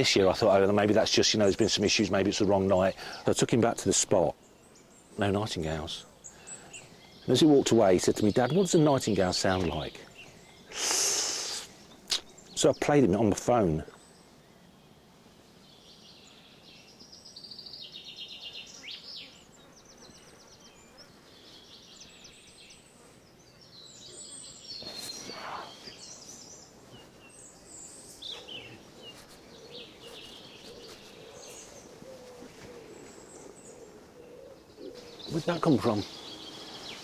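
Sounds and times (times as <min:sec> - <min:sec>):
nightingale singing: 0:00.0 - 0:37.0.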